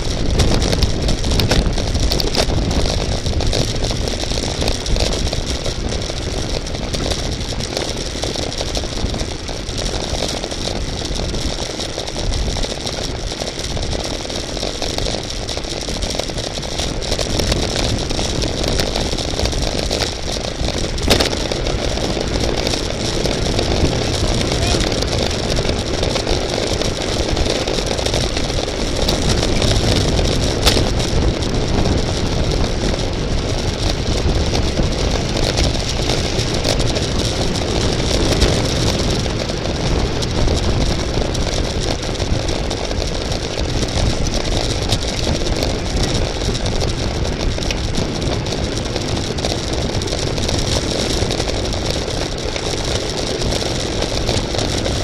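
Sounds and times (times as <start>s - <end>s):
road noise rumble: 0.0s - 55.0s
wind rushing on microphone: 0.0s - 55.0s.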